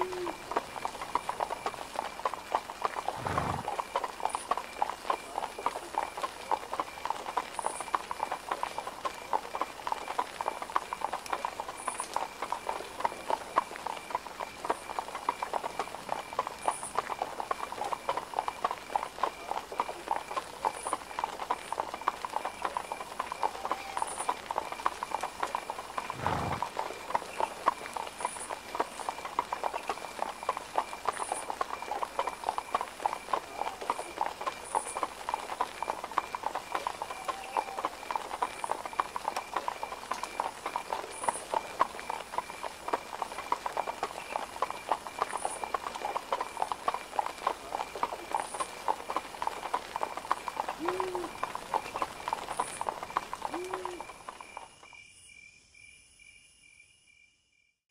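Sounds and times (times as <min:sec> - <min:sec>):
hooves clip-clopping on hard ground: 0:00.0 - 0:55.0.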